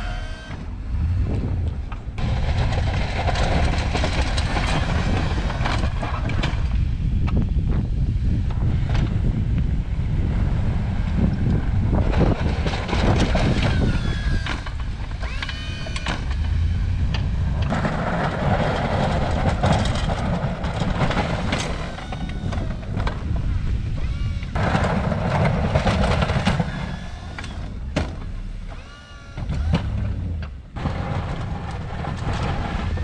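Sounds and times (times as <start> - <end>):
snow scraping along plow blade: 0.0 - 33.0
truck engine rumbling under load: 0.0 - 33.0.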